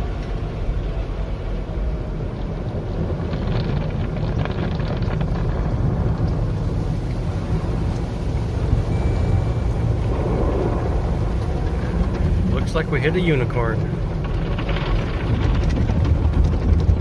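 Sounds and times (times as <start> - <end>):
car wash machinery rumbling: 0.0 - 17.0
crackling splashes: 0.0 - 17.0.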